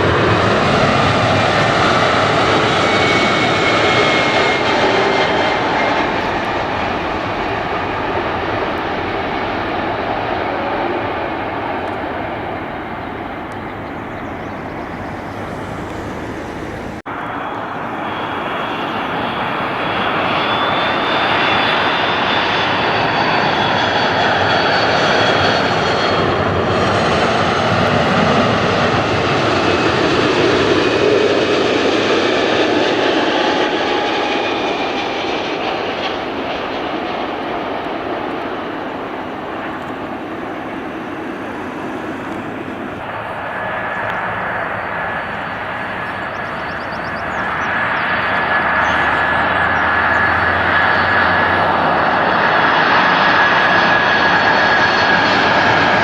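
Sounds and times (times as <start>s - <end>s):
jet engines passing: 0.0s - 56.0s.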